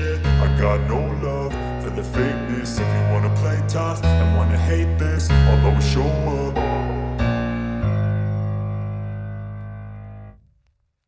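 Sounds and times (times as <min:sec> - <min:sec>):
bass and keyboard chords: 0:00.0 - 0:10.5.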